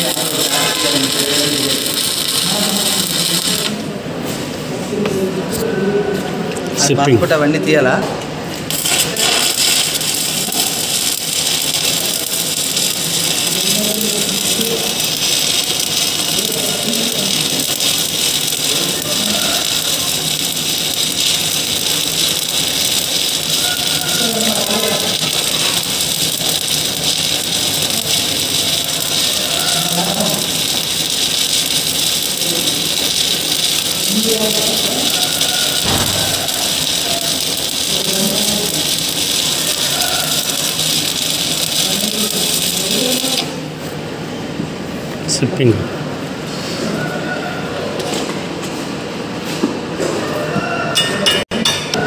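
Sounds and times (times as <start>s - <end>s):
arc welding crackle: 0.0s - 47.1s.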